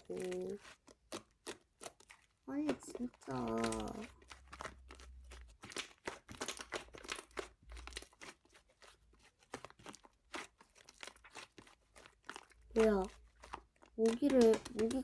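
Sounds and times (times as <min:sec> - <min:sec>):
slime crackling and popping: 0:00.0 - 0:15.0.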